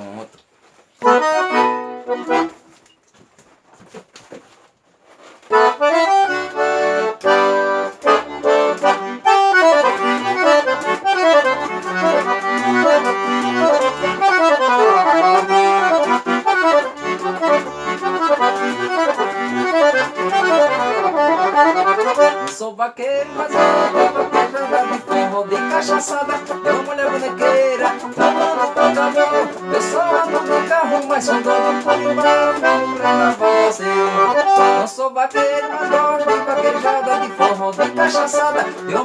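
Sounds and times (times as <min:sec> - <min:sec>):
accordion playing: 0:01.0 - 0:02.8, 0:05.4 - 0:39.0.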